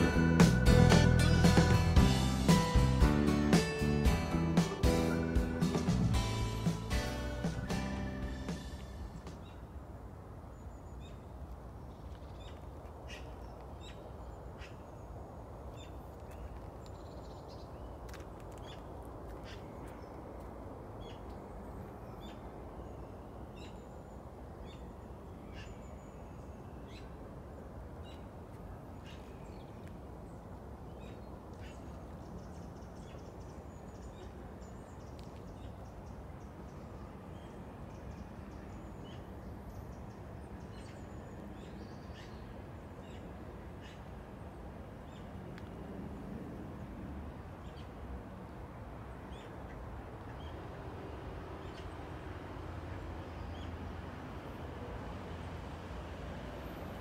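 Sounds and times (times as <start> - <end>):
faint low outdoor rush: 0.0 - 57.0.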